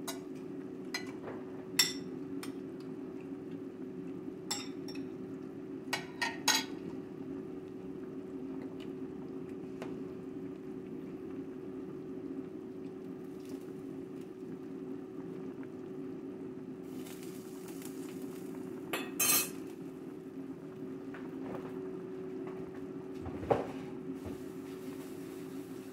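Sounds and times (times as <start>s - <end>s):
soup boiling in a pot: 0.0s - 23.2s, 24.0s - 25.9s
steady low hum: 0.0s - 25.9s.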